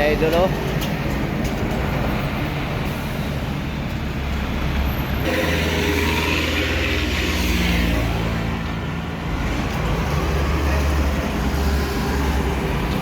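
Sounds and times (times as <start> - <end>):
heavy trucks passing: 0.0 - 13.0.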